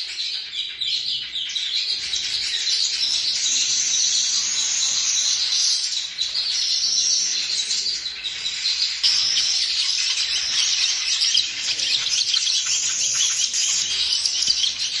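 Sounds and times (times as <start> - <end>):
flock of birds chattering: 0.0 - 15.0.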